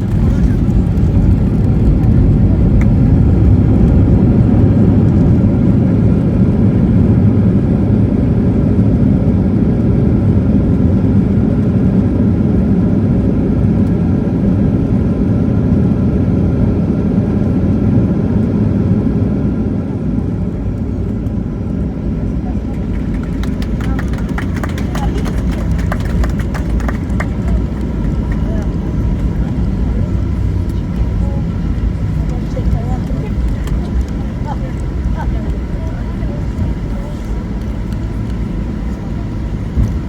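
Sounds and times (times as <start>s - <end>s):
airliner cabin engine rumble: 0.0s - 40.0s.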